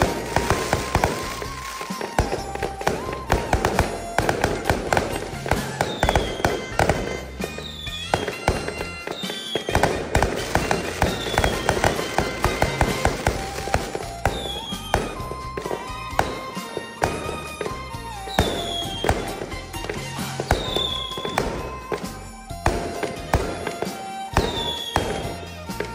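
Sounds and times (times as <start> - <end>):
fireworks bangs and crackles: 0.0 - 25.9
music playing: 0.0 - 25.9.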